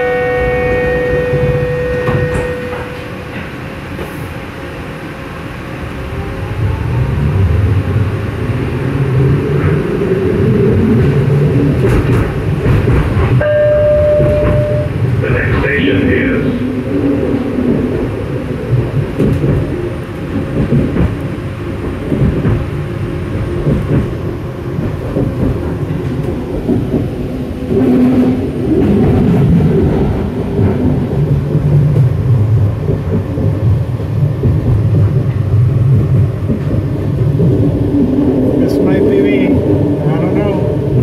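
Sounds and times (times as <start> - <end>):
steel wheels rumbling on rails: 0.0 - 41.0.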